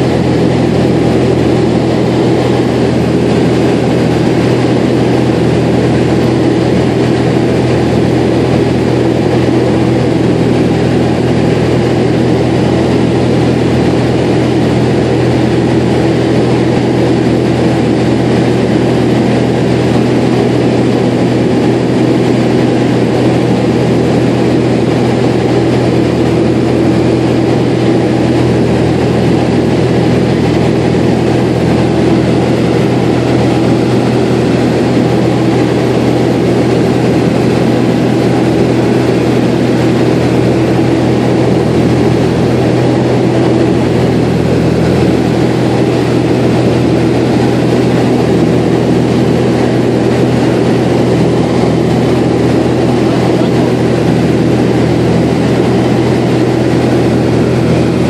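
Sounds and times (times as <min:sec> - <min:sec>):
aircraft engine drone in cabin: 0:00.0 - 0:58.0
rushing airflow: 0:00.0 - 0:58.0.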